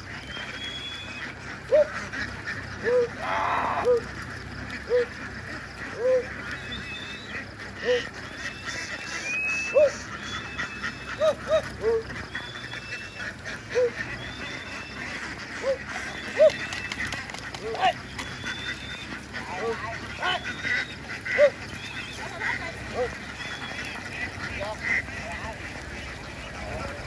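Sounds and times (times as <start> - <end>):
flock of ducks quacking: 0.0 - 27.0.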